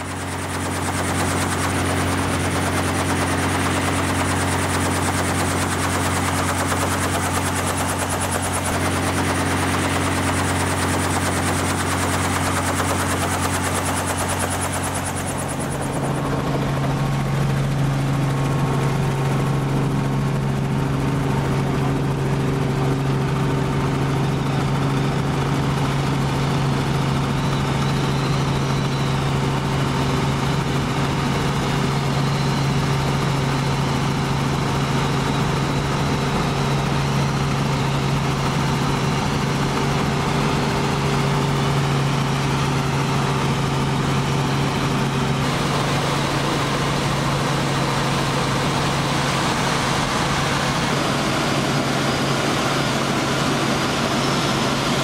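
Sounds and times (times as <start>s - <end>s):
helicopter drone from cabin: 0.0s - 55.0s.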